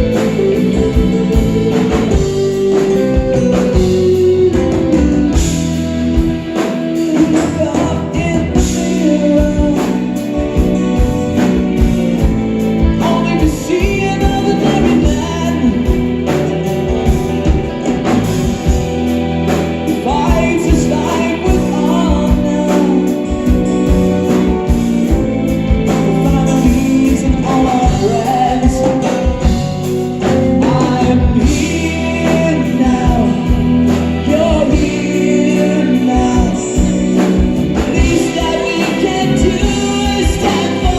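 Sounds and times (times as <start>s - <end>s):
gliding melodic lead line: 0.0s - 40.9s
progressive rock band playing: 0.0s - 40.9s.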